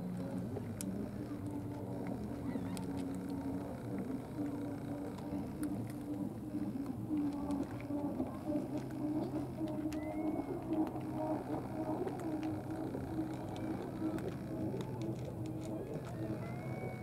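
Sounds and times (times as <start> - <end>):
low engine drone: 0.0 - 17.0
faint clicks: 0.2 - 17.0.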